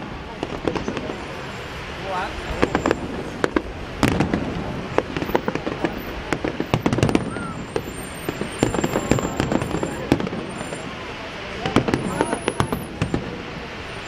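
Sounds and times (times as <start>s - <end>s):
continuous rumble: 0.0s - 14.0s
fireworks bangs and crackles: 0.0s - 14.0s.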